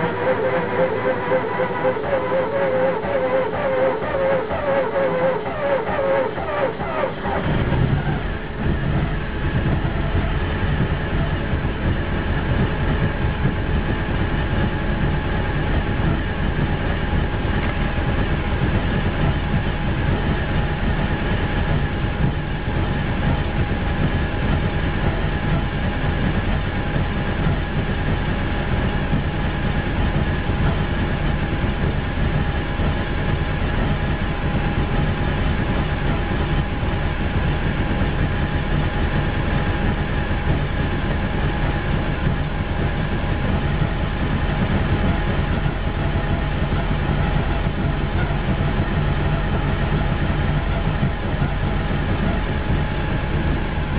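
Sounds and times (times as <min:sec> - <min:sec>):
van engine running: 0:00.0 - 0:53.9.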